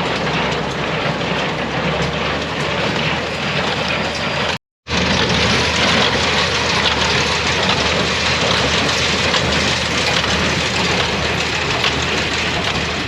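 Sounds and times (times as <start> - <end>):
heavy machinery engine clattering: 0.0 - 13.0.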